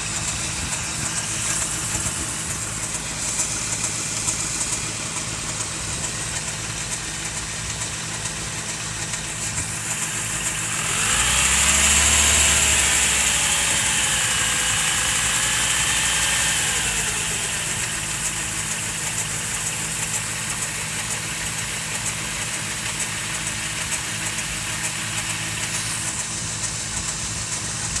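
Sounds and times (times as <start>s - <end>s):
car engine idling and revving: 0.0s - 28.0s
engine whine: 0.0s - 28.0s.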